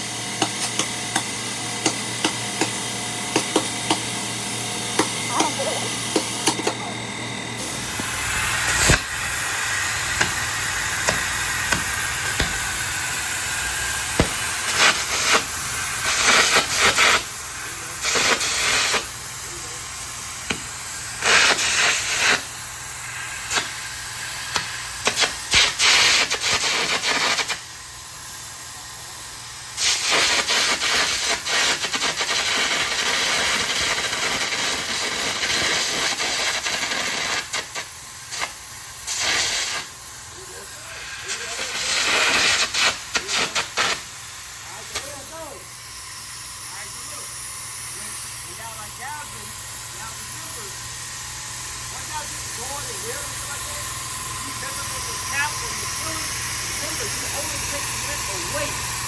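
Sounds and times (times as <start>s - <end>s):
compressed air hissing: 0.0s - 28.7s, 29.3s - 59.0s
arc crackling: 3.4s - 28.4s, 29.8s - 59.0s.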